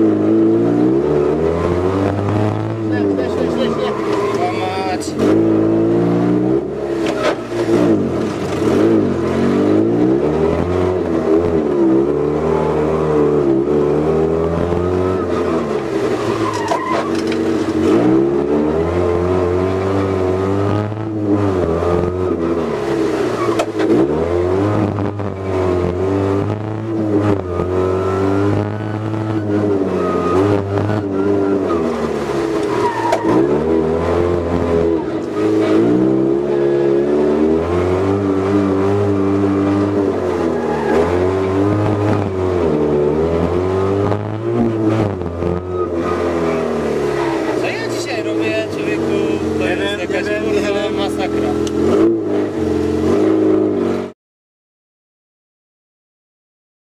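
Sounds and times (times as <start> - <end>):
car engine revving: 0.0 - 54.1.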